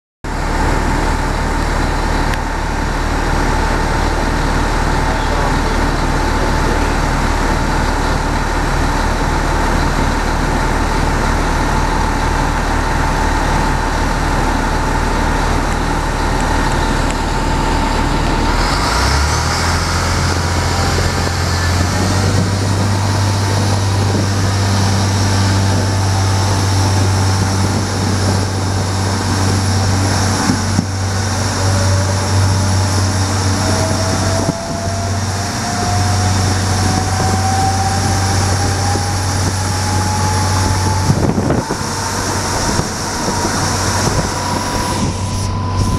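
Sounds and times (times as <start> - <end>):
rising engine whine: 0.3 - 45.9
train engine running: 0.3 - 45.9.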